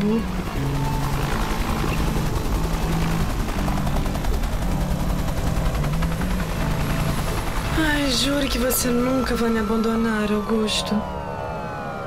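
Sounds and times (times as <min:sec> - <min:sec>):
helicopter rotors chopping: 0:00.0 - 0:12.0.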